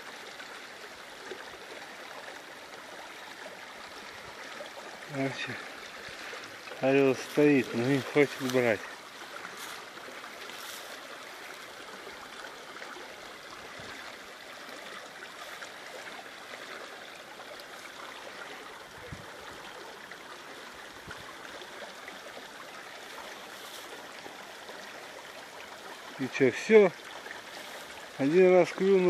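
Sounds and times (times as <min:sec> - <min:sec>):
stream flowing water: 0:00.0 - 0:29.0.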